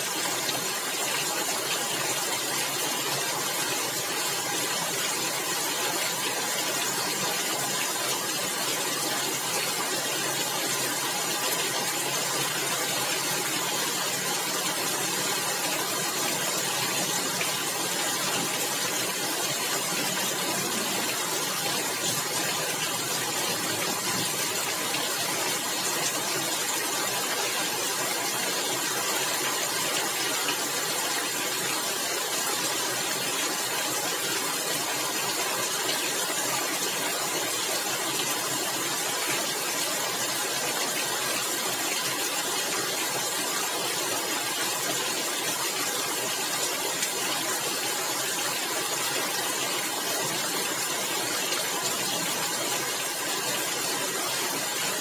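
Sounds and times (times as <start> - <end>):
heavy rain on roof tiles: 0.0 - 55.0.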